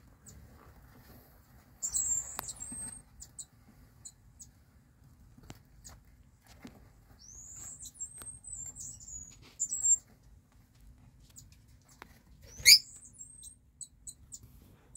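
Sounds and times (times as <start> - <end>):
gerbils squeaking: 0.0 - 4.8, 5.4 - 10.2, 11.2 - 14.5.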